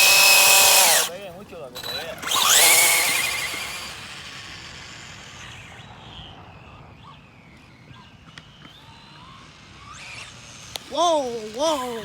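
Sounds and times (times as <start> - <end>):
distant electric motor whine: 0.0 - 1.2, 1.8 - 12.0.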